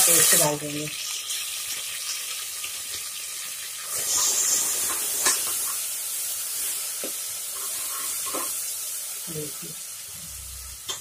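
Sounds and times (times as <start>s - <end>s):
garlic paste sizzling in oil: 0.0s - 11.0s.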